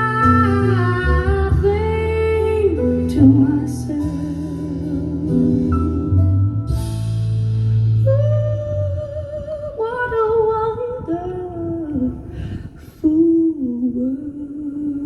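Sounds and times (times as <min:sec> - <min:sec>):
soft musical accompaniment: 0:00.0 - 0:12.3.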